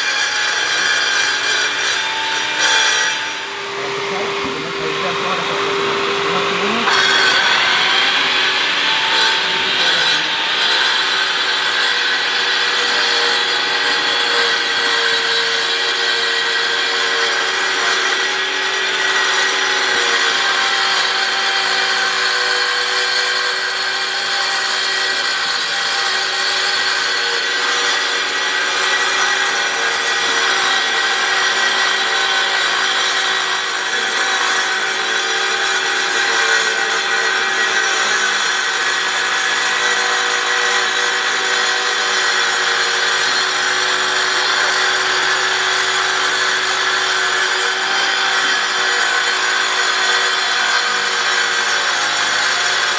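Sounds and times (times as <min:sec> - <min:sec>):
saw motor whining: 0:00.0 - 0:52.9.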